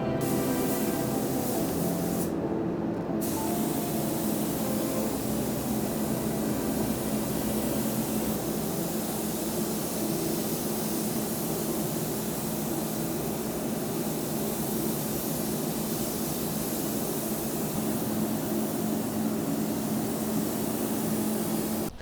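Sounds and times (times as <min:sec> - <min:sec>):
paint spray gun hissing: 0:00.0 - 0:02.3, 0:03.2 - 0:22.0.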